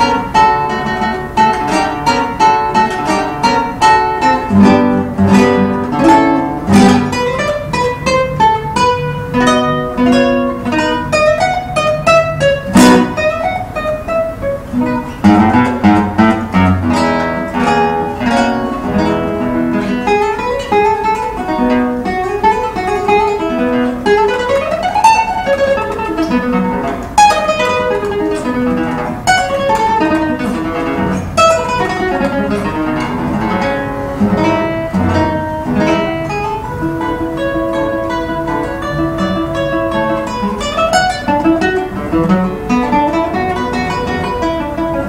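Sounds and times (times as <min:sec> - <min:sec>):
classical guitar playing: 0:00.0 - 0:45.0
strummed guitar chords: 0:00.0 - 0:45.0.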